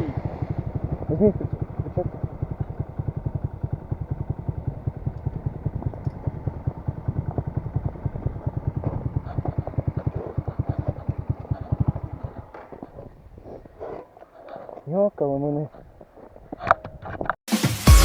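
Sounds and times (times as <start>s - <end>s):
motorcycle engine idling: 0.0s - 17.1s.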